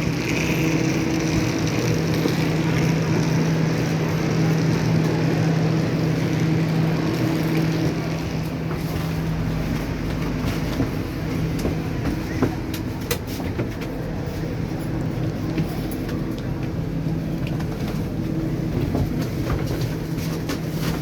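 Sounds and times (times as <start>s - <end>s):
train carriage hum and rumble: 0.0s - 21.0s.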